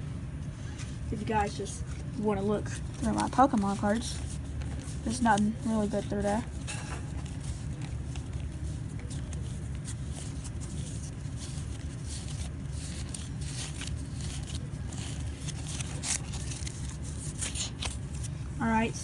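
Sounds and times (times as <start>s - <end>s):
steady low hum: 0.0s - 19.0s
cards clicking and rustling: 2.7s - 18.4s.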